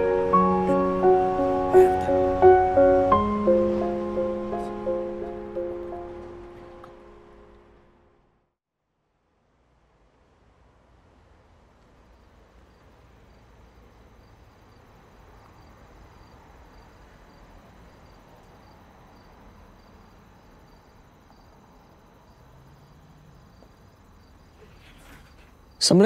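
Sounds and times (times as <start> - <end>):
crickets chirping: 0.0 - 7.6, 11.8 - 26.0.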